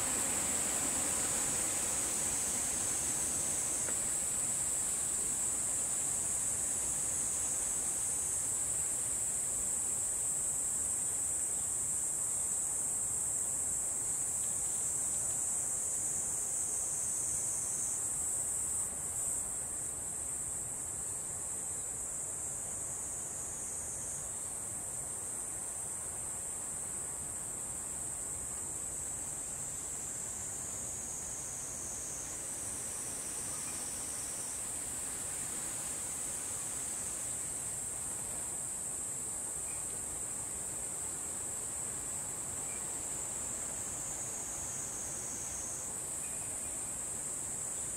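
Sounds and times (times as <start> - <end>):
faint hiss: 0.0 - 47.9
high-pitched insect chorus: 0.0 - 47.9.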